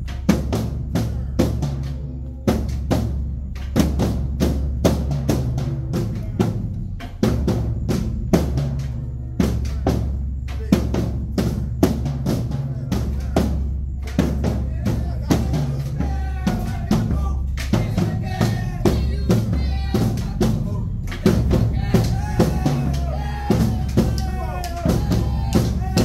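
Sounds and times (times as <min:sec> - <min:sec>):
bass drums: 0:00.0 - 0:26.0
snare drums: 0:00.0 - 0:26.0.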